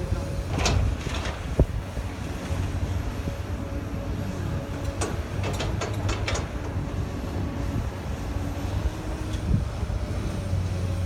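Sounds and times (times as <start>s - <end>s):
wind on microphone: 0.0s - 10.6s
distant heavy equipment working: 0.0s - 11.0s.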